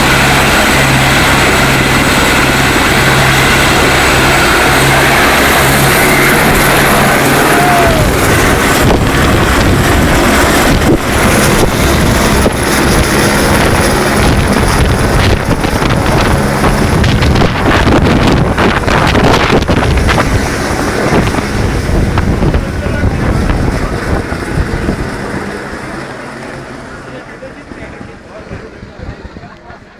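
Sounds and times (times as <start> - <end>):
helicopter turbine and rotor: 0.0 - 29.9
rotor wash buffeting microphone: 0.0 - 29.9.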